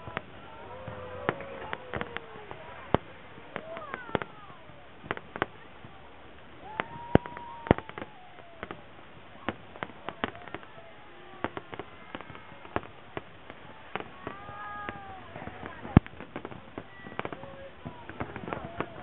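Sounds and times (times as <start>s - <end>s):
fireworks bangs and pops: 0.0s - 19.0s.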